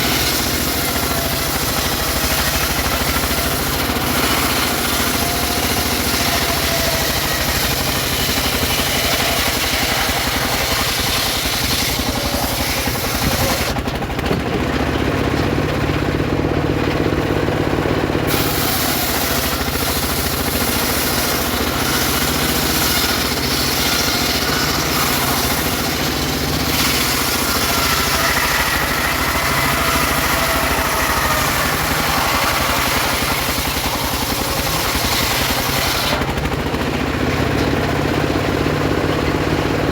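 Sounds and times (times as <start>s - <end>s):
circular saw cutting wood: 0.0s - 15.9s, 18.2s - 39.9s
saw motor drone: 0.0s - 39.9s.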